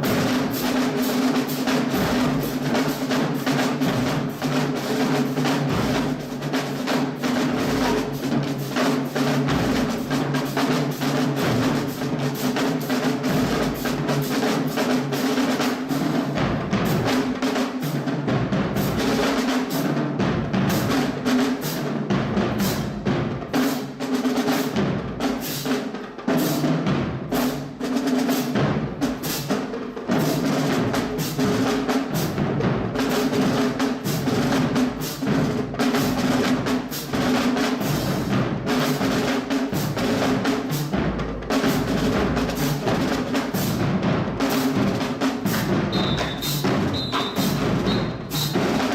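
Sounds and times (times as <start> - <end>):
marching band drums: 0.0 - 48.9.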